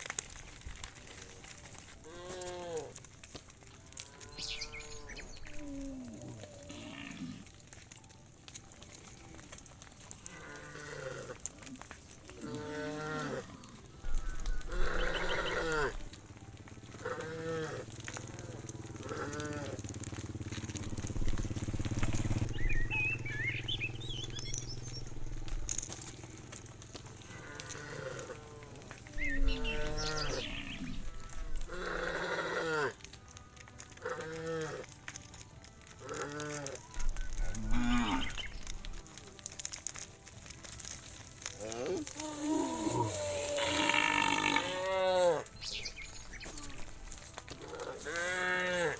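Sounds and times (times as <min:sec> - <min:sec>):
cows mooing: 0:02.0 - 0:07.8, 0:10.1 - 0:16.2, 0:16.9 - 0:23.4, 0:25.4 - 0:35.4, 0:36.0 - 0:38.7, 0:40.6 - 0:48.9.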